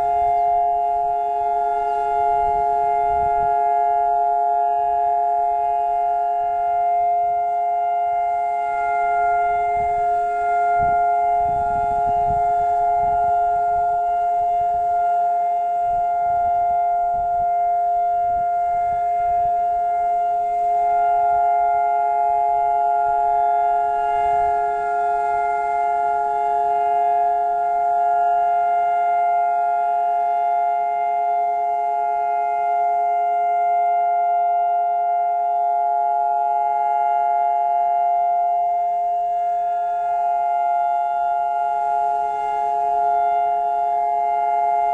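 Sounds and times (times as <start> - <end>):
civil defence siren steady tone: 0.0 - 44.9.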